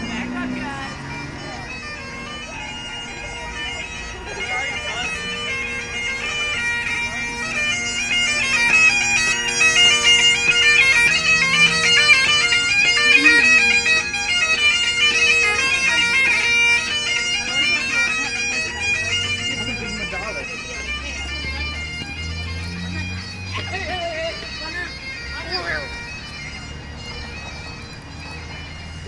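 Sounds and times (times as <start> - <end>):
bagpipes playing: 0.0 - 29.0.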